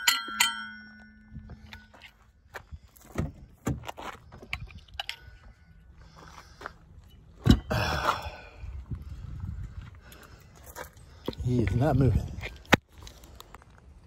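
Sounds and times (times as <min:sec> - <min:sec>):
footsteps on gravel: 0:01.3 - 0:07.1, 0:07.9 - 0:14.0.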